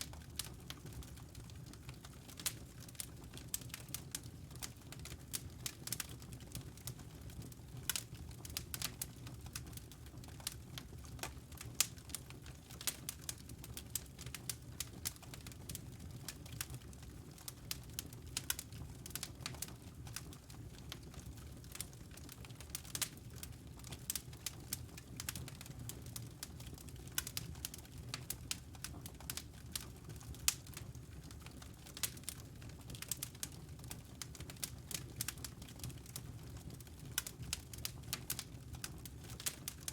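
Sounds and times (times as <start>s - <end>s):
low sound of flames: 0.0s - 39.9s
wood fire crackling: 0.0s - 39.9s.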